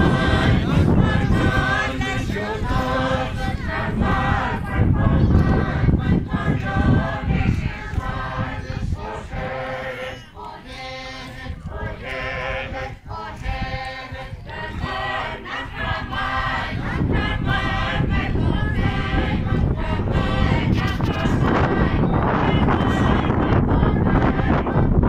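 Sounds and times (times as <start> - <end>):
group of voices singing: 0.0 - 25.0
wind rumble on microphone: 0.0 - 25.0.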